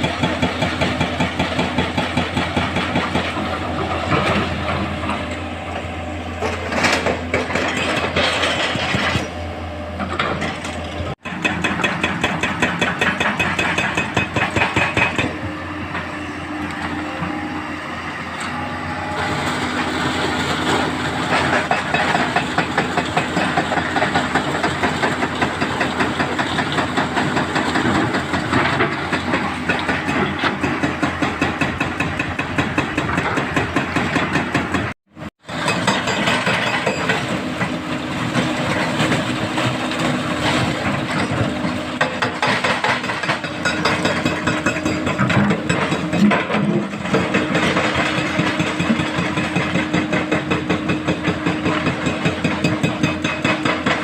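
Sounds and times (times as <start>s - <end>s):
diesel machinery engines running: 0.0s - 54.0s.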